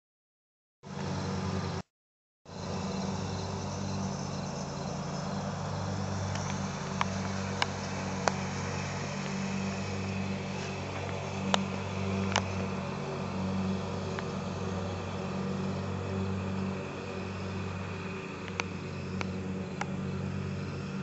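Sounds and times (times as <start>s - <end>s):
low motor hum: 0.9s - 1.8s, 2.5s - 21.0s.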